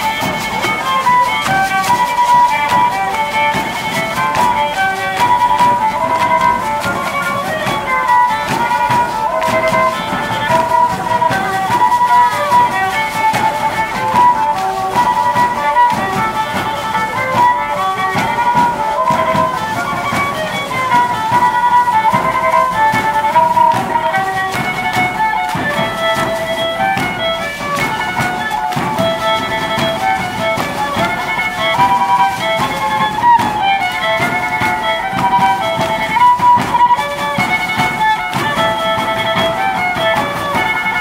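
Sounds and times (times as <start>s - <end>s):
high melody instrument playing: 0.0s - 41.0s.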